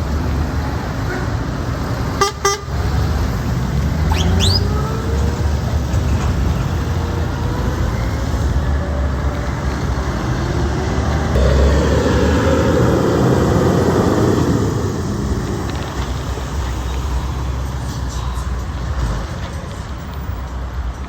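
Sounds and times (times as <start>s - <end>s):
heavy truck driving past: 0.0s - 20.4s.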